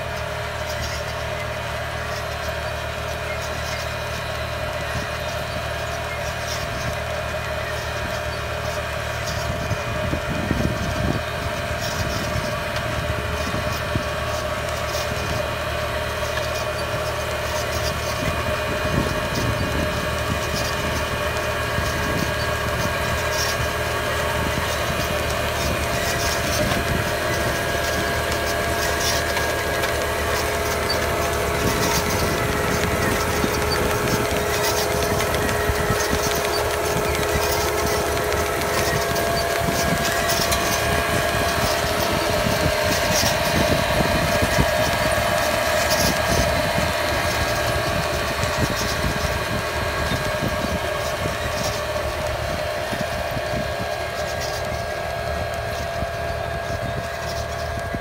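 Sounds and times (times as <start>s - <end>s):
machinery whine: 0.0s - 58.0s
tractor engine running: 0.0s - 58.0s.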